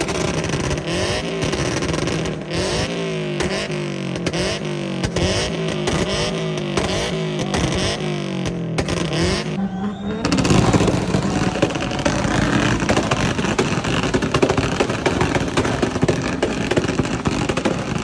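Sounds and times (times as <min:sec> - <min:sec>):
car engine revving hard: 0:00.0 - 0:18.0
rapid exhaust pops: 0:00.0 - 0:18.0.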